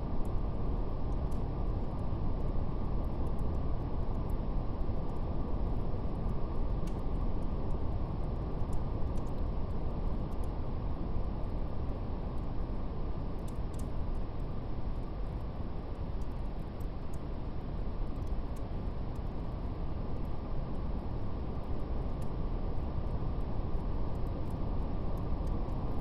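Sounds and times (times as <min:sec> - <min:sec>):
wood fire crackling: 0:00.2 - 0:26.0.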